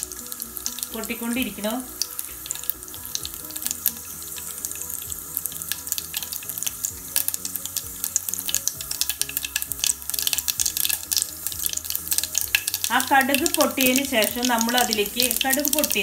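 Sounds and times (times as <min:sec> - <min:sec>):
seeds popping: 0:00.0 - 0:16.0
seeds sizzling in hot oil: 0:00.0 - 0:16.0.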